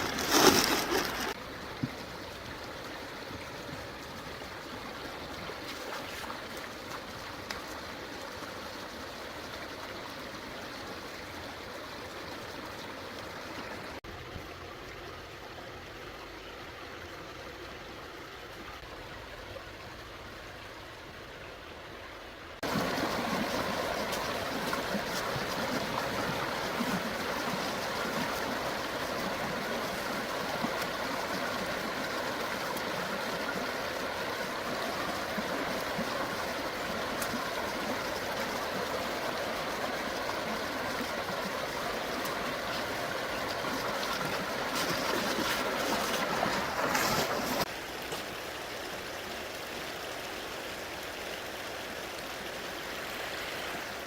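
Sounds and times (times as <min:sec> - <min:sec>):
stream water rushing and trickling: 0:00.0 - 0:54.0.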